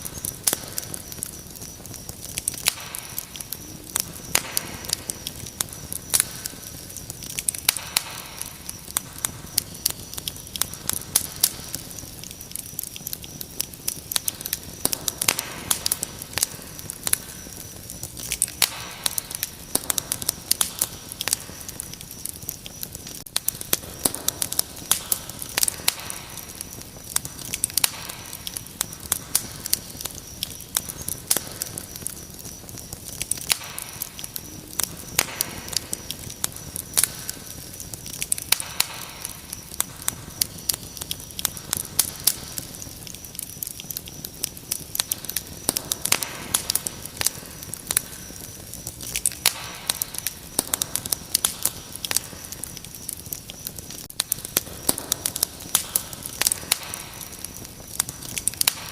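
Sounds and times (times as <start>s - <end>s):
cricket trill: 0.0s - 58.9s
wood fire crackling and popping: 0.0s - 58.9s.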